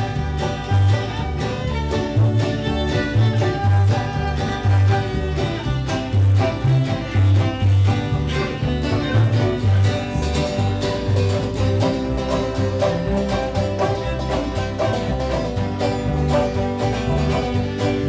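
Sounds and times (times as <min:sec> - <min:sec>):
bluegrass band playing: 0:00.0 - 0:18.0.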